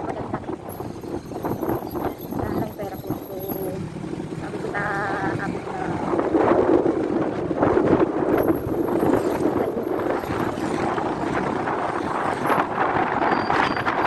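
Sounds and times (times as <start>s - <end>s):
motorcycle running: 0.0s - 14.0s
wind buffeting microphone: 0.0s - 14.0s.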